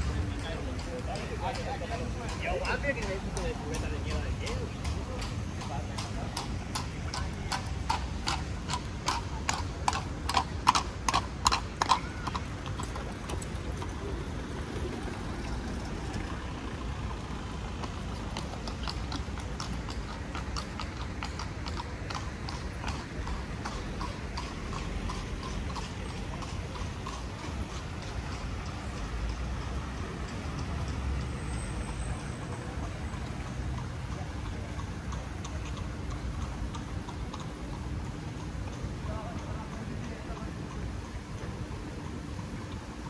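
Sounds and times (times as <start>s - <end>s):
horse hooves clip-clopping on paving: 0.0s - 43.0s
low street hum: 0.0s - 43.0s.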